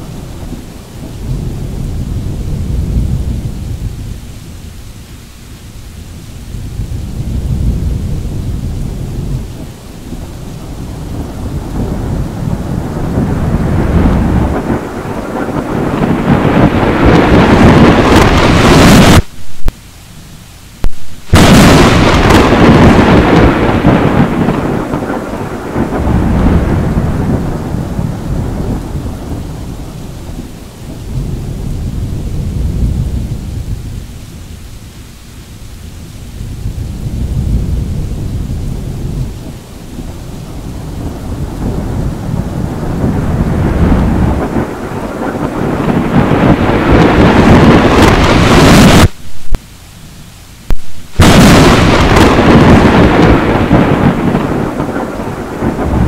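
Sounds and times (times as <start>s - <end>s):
lightning strike crack: 0.0s - 19.8s, 20.8s - 34.8s, 35.7s - 49.7s, 50.6s - 56.0s
thunder rumbling: 0.0s - 56.0s.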